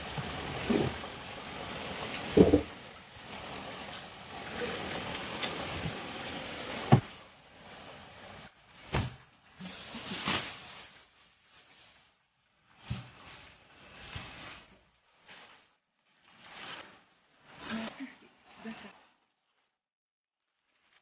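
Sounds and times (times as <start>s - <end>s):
plastic bag rustling: 0.0s - 18.1s
steady hiss: 0.0s - 18.9s.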